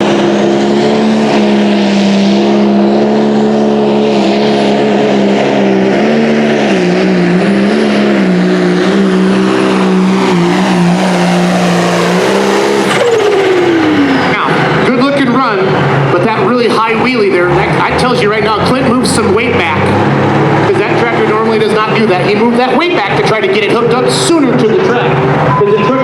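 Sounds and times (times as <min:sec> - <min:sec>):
tractor diesel engine at high revs: 0:00.0 - 0:26.0.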